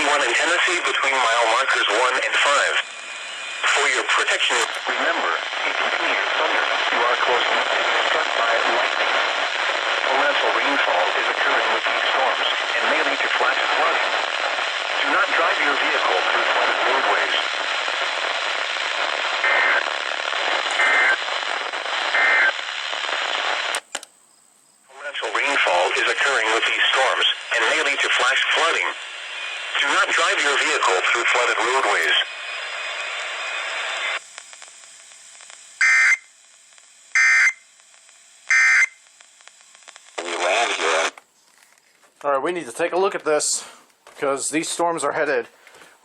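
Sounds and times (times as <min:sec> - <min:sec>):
radio static: 0:00.0 - 0:23.9, 0:24.9 - 0:41.2, 0:42.2 - 0:46.0.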